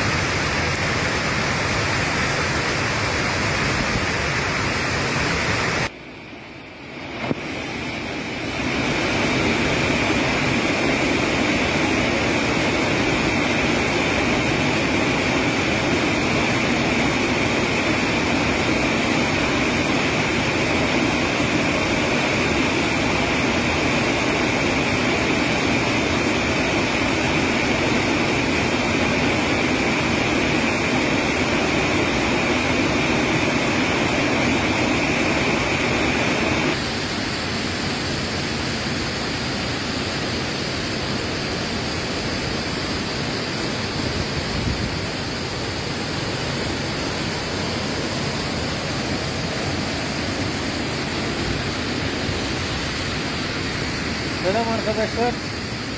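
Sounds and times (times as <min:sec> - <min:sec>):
waterfall rushing: 0:00.0 - 0:05.9, 0:06.8 - 0:55.9
running water: 0:07.0 - 0:55.9.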